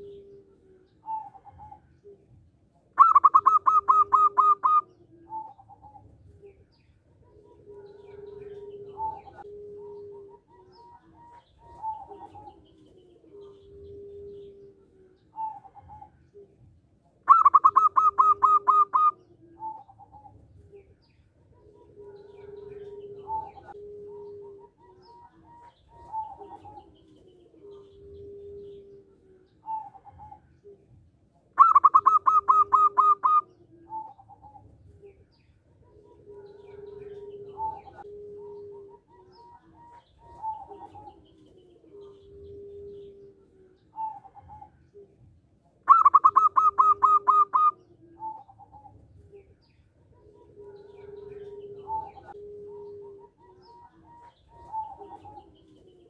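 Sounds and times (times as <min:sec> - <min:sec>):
dove cooing: 0:00.0 - 0:56.0
dove singing staccato notes: 0:00.0 - 0:56.0.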